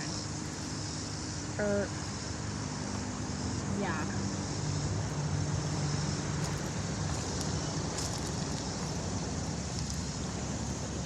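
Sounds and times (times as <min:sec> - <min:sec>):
low engine hum: 0:00.0 - 0:11.0
road traffic noise: 0:00.0 - 0:11.0.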